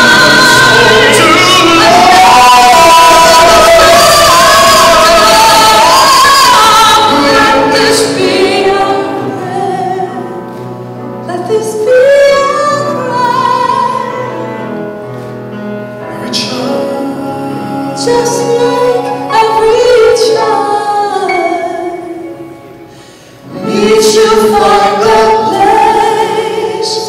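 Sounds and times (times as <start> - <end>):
woman and man singing duet: 0.0 - 10.4, 11.3 - 14.5, 16.1 - 22.5, 23.5 - 27.0.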